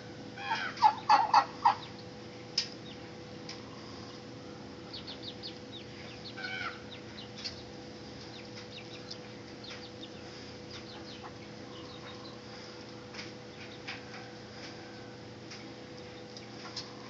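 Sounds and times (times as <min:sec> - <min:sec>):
steady low hum: 0:00.0 - 0:17.0
poultry chirping and clucking: 0:00.2 - 0:17.0.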